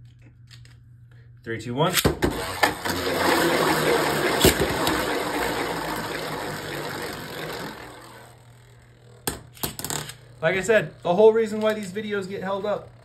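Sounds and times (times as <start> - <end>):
spinning tops whirring and scraping: 2.2 - 13.0.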